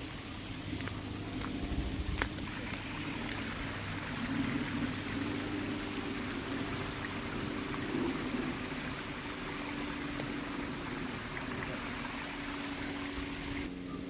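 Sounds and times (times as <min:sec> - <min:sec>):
creek water rushing: 0:00.0 - 0:13.7.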